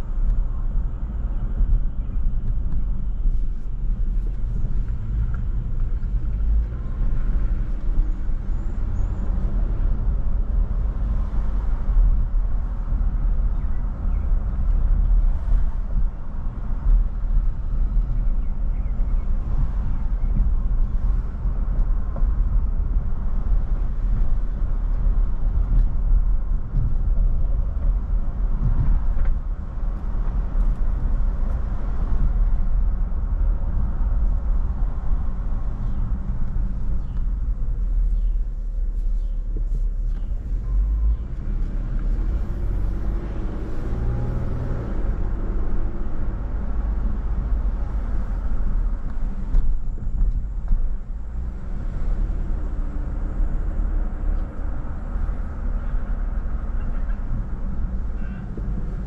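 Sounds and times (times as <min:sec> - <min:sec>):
car tyre and engine rumble: 0:00.0 - 0:59.0.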